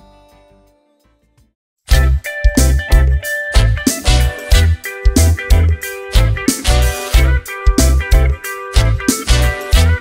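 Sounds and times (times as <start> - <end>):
music with drums: 1.9 - 10.0.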